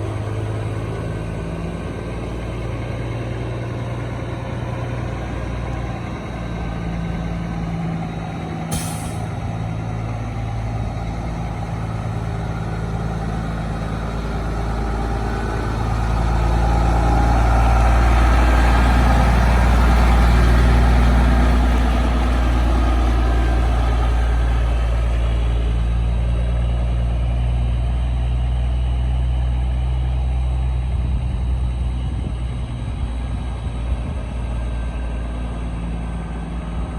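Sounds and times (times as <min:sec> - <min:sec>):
truck diesel engine running: 0:00.0 - 0:36.9.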